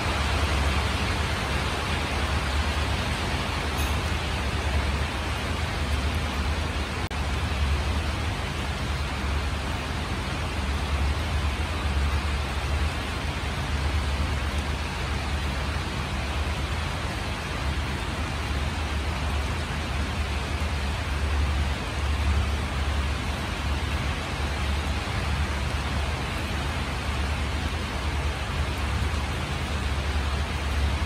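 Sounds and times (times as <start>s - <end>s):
rain falling on leaves: 0.0s - 31.0s.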